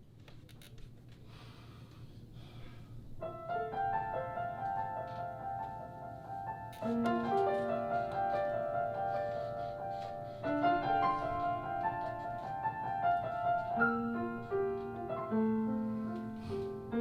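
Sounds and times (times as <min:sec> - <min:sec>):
faint room noise: 0:00.0 - 0:17.0
piano notes ringing: 0:03.2 - 0:17.0.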